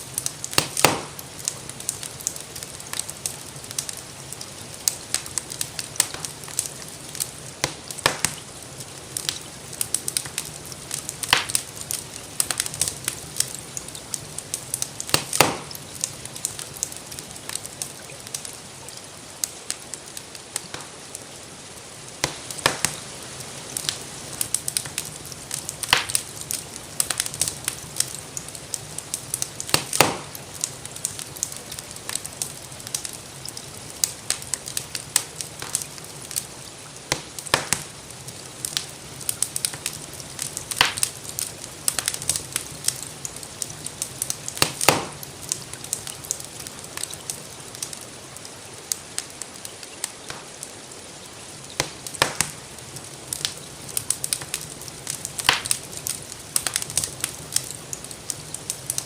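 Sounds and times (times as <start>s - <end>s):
fire pops: 0.0s - 21.2s, 21.8s - 59.0s
gentle rain: 0.0s - 59.0s
wood fire crackling: 0.0s - 59.0s.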